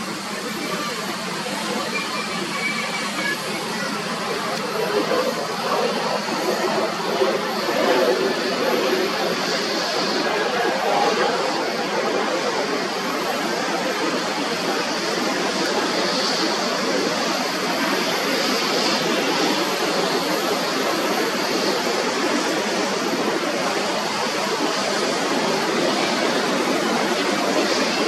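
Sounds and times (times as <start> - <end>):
jet airliner engines rushing: 0.0 - 28.0.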